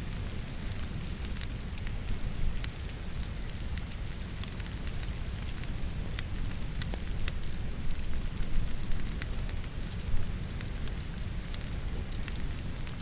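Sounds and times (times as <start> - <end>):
logs crackling in a fireplace: 0.0 - 13.0
steady rain hiss: 0.0 - 13.0.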